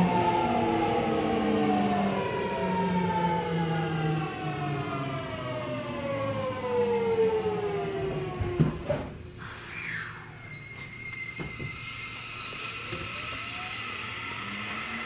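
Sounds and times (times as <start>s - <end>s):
train running noise: 0.0s - 9.5s, 10.7s - 15.0s
train inverter whine: 0.0s - 15.0s.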